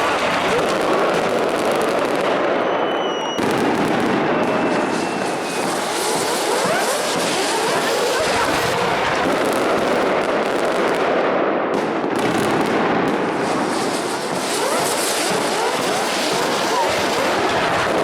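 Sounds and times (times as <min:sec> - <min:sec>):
rising firework whistles: 0:00.0 - 0:10.8, 0:12.2 - 0:18.0
firecrackers crackling: 0:00.0 - 0:18.0.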